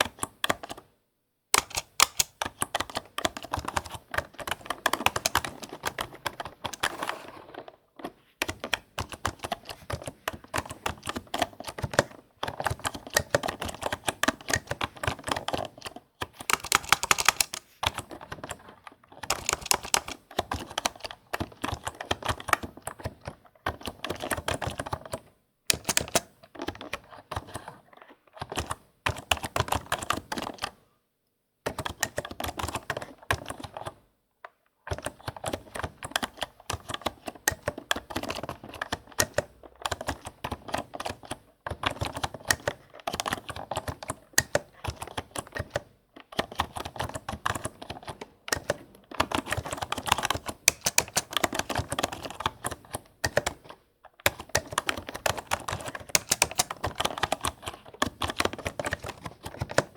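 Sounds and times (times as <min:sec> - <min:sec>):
fast typing on a keyboard: 0:00.0 - 0:00.9, 0:01.6 - 0:27.8, 0:28.4 - 0:30.8, 0:31.7 - 0:34.0, 0:34.9 - 0:59.9.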